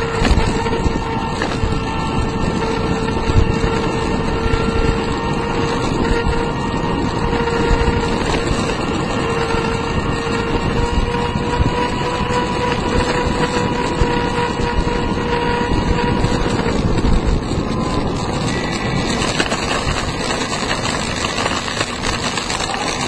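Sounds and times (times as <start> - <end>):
electric motor whine: 0.0 - 23.0
wheels roaring on asphalt: 0.0 - 23.0
wind buffeting microphone: 0.0 - 23.0.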